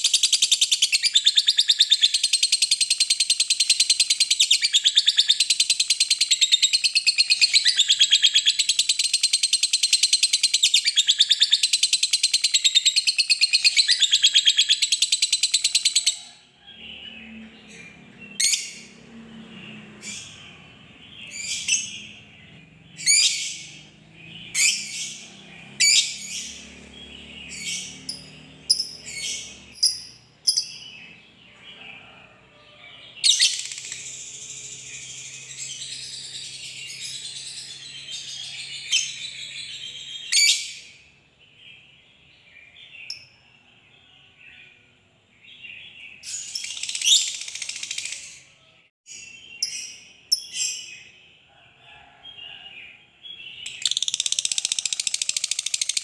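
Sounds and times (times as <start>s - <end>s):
bird chirps: 0.0s - 43.5s, 45.5s - 51.3s, 53.3s - 56.0s.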